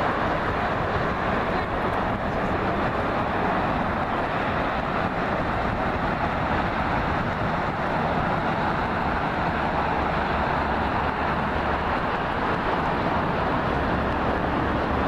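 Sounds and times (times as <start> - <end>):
distant highway traffic: 0.0 - 15.0.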